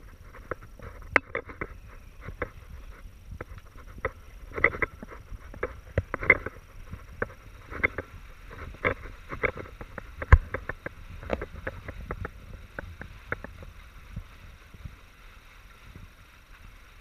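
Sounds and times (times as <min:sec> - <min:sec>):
waves slapping against hull: 0:00.0 - 0:17.0
wind rumble on microphone: 0:00.0 - 0:17.0.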